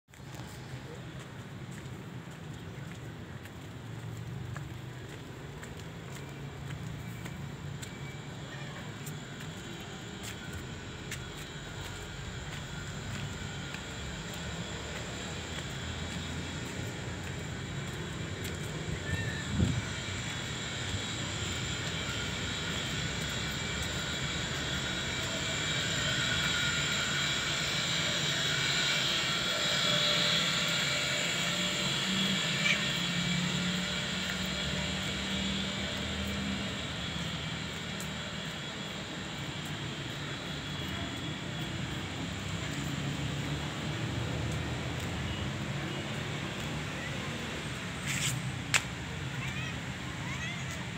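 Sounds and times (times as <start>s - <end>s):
aircraft engine drone: 0.1s - 50.9s.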